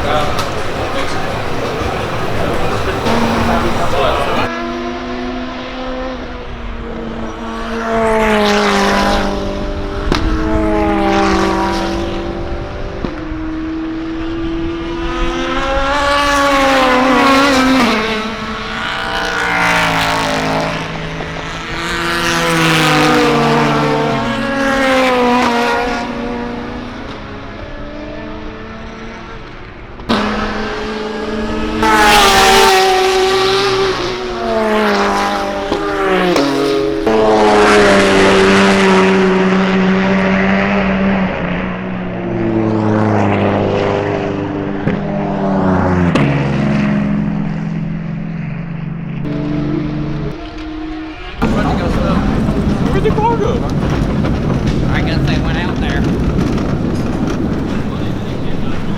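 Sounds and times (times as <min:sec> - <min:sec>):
race cars passing at speed: 0:00.0 - 0:58.9.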